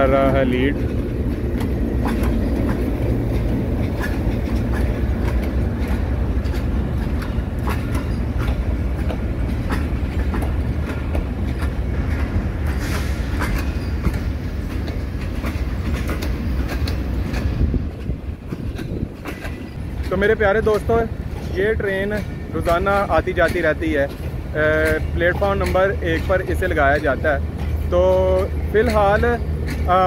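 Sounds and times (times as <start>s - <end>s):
train rumbling past: 0.0s - 30.0s
wheels clicking over rail joints: 0.0s - 30.0s.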